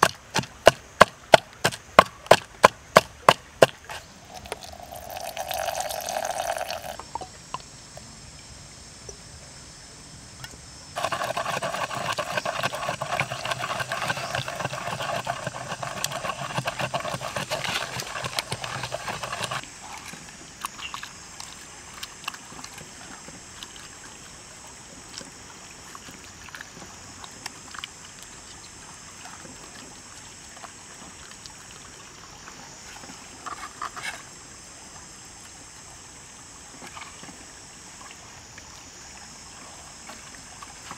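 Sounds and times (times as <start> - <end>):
forest insects droning: 0.0 - 40.9.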